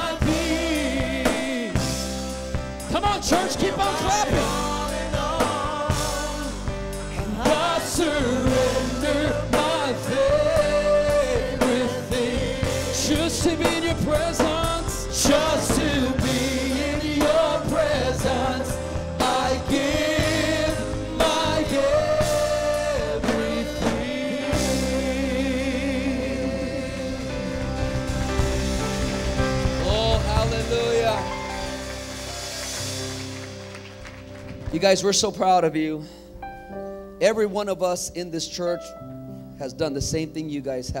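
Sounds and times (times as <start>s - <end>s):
voices singing worship song: 0.0s - 33.3s
steady bass accompaniment: 0.0s - 38.9s.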